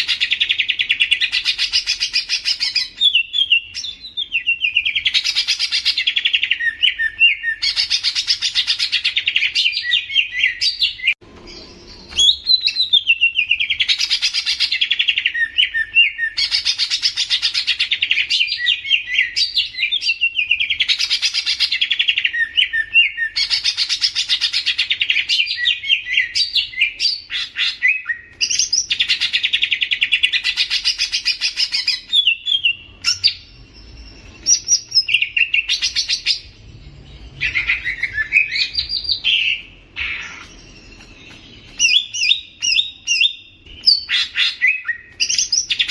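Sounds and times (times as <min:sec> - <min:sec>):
bird singing chattering song: 0:00.0 - 0:45.9.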